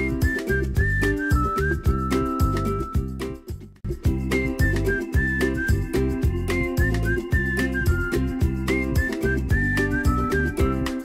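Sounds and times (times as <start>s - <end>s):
music with high melody and beat: 0.0s - 11.0s.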